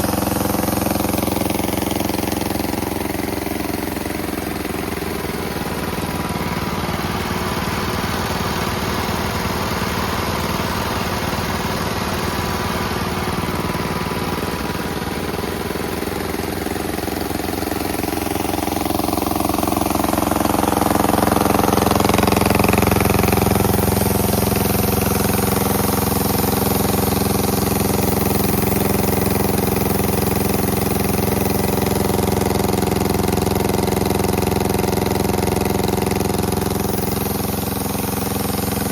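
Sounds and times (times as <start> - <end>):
small engines running: 0.0 - 38.9.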